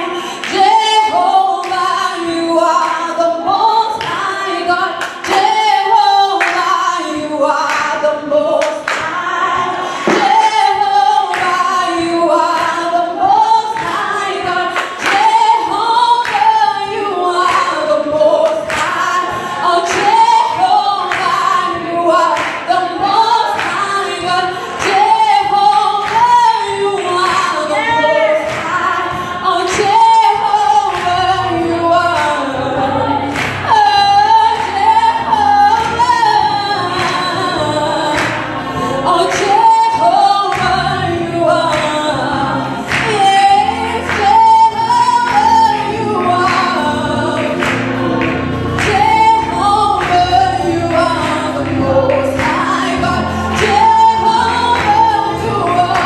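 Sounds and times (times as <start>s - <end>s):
woman singing gospel song: 0.0s - 56.0s.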